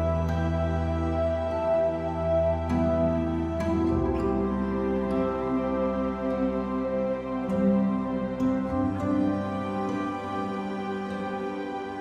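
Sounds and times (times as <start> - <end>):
soft new-age instrumental music: 0.0 - 12.0.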